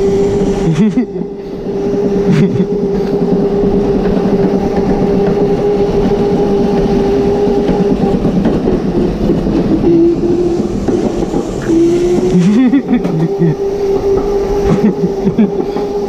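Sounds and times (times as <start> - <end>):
small wheels rolling on tile: 1.5 - 16.0.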